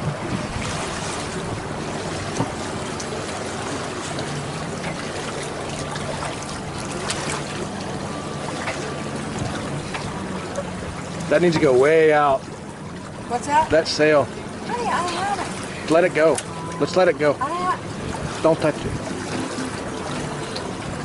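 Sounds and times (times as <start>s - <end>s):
water rushing along boat hulls: 0.0s - 21.0s.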